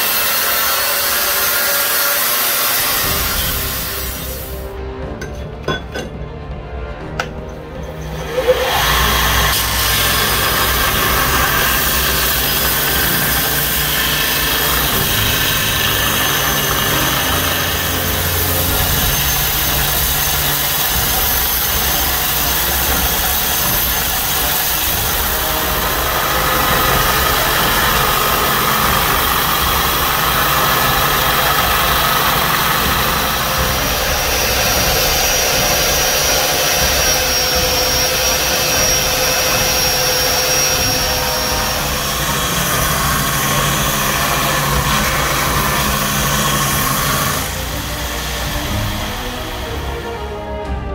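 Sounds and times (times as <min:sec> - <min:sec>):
belt grinder grinding steel: 0:00.0 - 0:04.6, 0:07.2 - 0:50.2
motor hum: 0:08.2 - 0:50.8.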